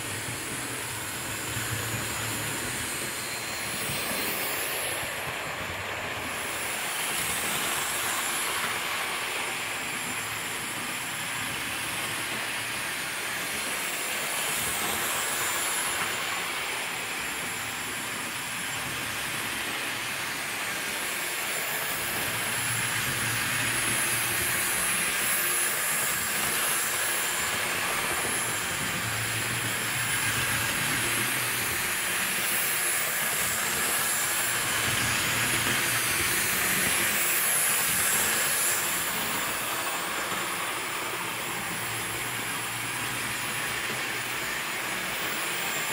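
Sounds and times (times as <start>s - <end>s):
model train motor whine: 0.0s - 45.9s
wheel and rail noise: 0.0s - 45.9s.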